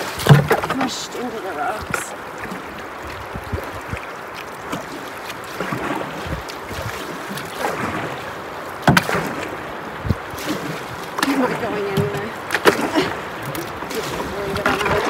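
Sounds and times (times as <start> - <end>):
paddle strokes splashing: 0.0 - 15.0
rushing river water: 0.0 - 15.0.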